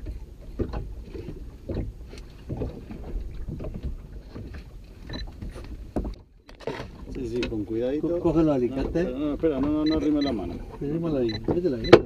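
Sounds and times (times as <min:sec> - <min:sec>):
water lapping against boat: 0:00.0 - 0:12.0
wind rumbling on microphone: 0:00.0 - 0:12.0.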